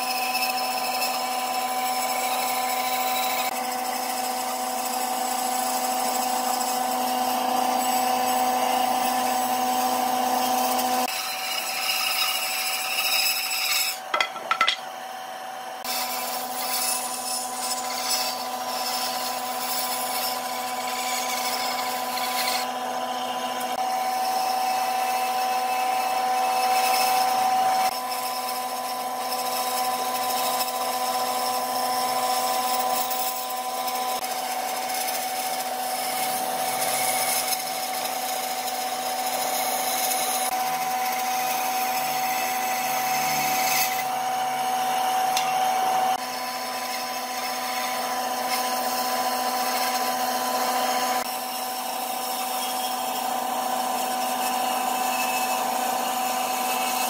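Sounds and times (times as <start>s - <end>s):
power tool motor on wood: 0.0s - 57.0s.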